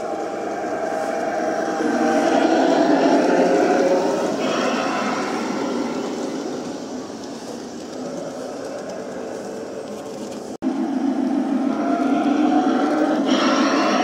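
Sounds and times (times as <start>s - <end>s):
model train rumbling past: 0.0s - 14.0s.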